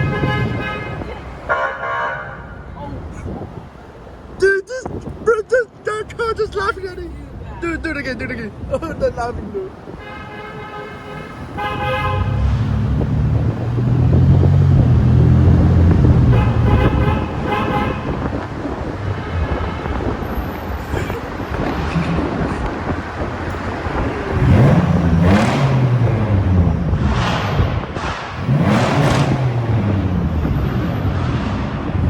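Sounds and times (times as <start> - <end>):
freeway road noise: 0.0 - 32.0.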